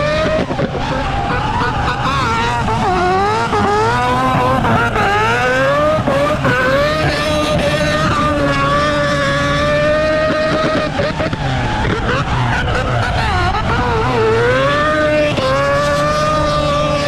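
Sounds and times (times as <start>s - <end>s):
rotary engine revving high: 0.0s - 17.0s.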